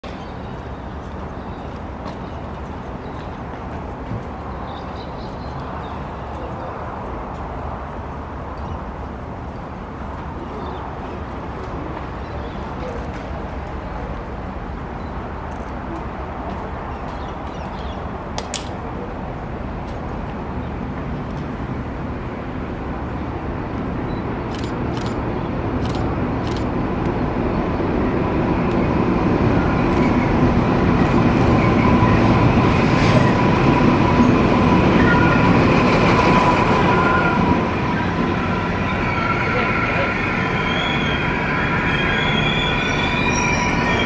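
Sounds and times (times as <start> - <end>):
diesel train engine and wheels: 0.0 - 44.0.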